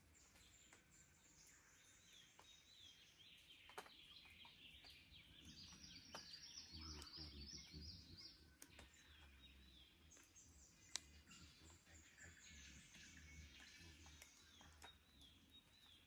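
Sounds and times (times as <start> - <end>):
birds chirping and trilling: 0.0 - 16.0.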